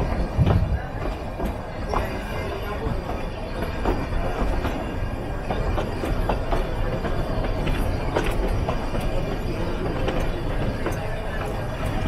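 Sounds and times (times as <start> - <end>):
train rumbling over tracks: 0.0 - 12.0
wheels clicking over rail joints: 0.0 - 12.0.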